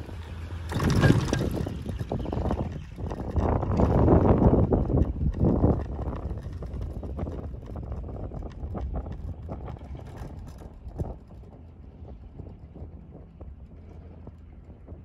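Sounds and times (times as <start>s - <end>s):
chairlift running noise: 0.0s - 15.0s
low rumble: 0.0s - 15.0s
wind on microphone: 0.0s - 15.0s.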